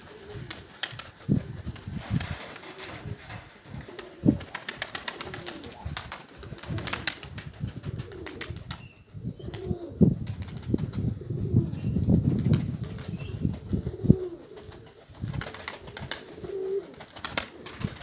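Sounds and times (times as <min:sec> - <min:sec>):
pigeons cooing: 0:00.0 - 0:10.2, 0:10.8 - 0:18.0.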